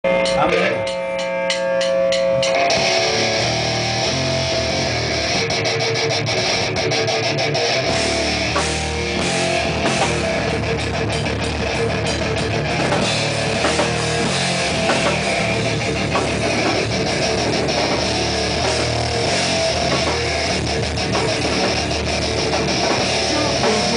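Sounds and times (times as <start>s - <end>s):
drums and cymbals: 0.1s - 23.9s
electric guitar: 0.1s - 23.9s.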